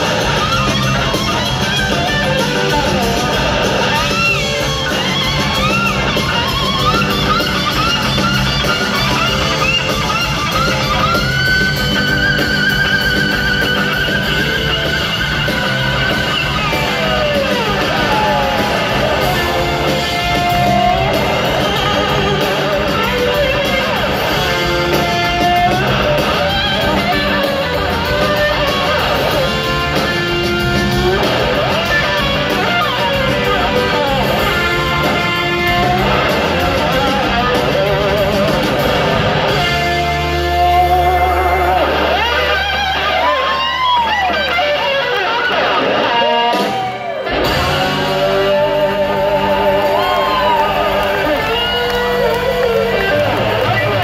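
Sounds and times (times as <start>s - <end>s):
live band music: 0.0s - 54.0s
sliding guitar lead: 0.0s - 54.0s.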